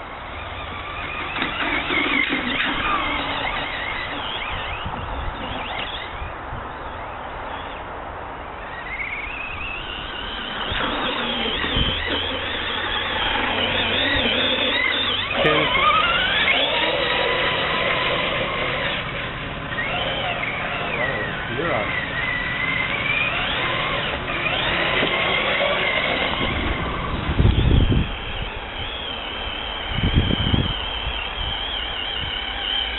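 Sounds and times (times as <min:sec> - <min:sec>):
rc truck motor whining: 0:00.0 - 0:07.8, 0:08.5 - 0:32.9.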